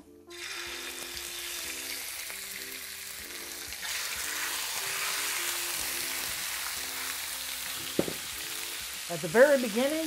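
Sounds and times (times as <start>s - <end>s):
chicken sizzling in hot oil: 0.3s - 10.0s.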